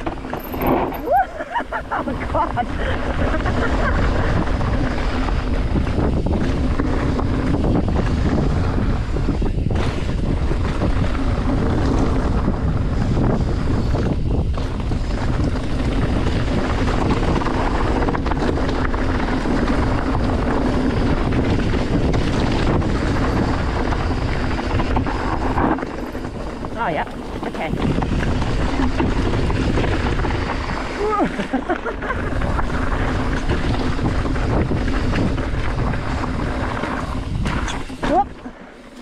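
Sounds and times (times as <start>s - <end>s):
bike clattering: 0.0s - 39.0s
tyres rolling on loose stones: 0.0s - 39.0s
wind buffeting microphone: 0.0s - 39.0s.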